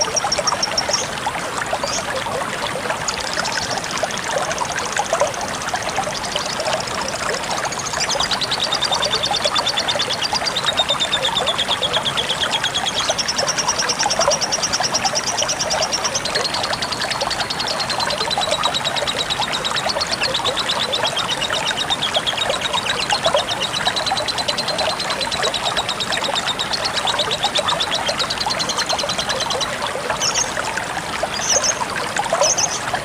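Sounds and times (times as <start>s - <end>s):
water trickling and splashing: 0.0s - 33.0s.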